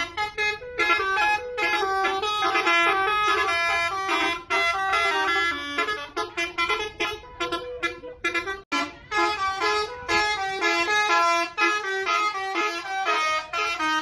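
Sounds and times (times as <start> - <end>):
bus horn playing a melody: 0.0 - 14.0.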